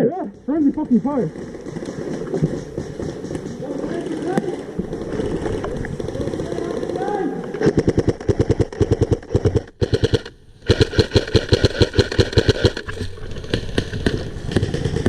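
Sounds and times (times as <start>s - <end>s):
faint scattered shots: 1.3s - 15.0s
airsoft gun firing bursts: 1.4s - 15.0s.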